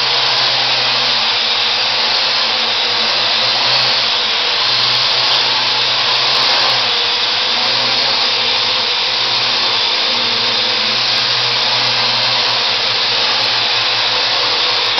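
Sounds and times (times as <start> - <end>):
drone rotors whirring: 0.0 - 14.9.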